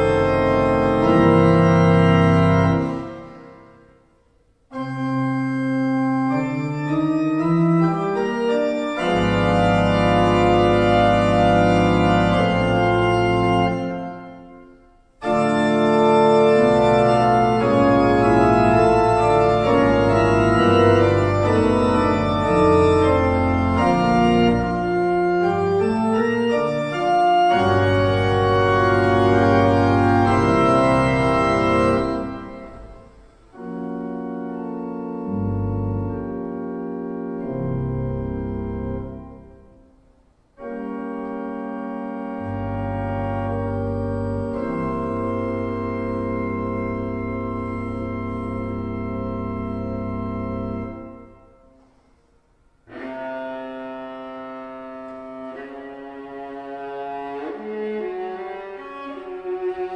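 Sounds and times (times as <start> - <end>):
deep organ pedal bass notes: 0.0 - 3.8, 4.7 - 39.9, 40.6 - 51.6, 52.9 - 59.9
pipe organ chords: 0.0 - 59.9.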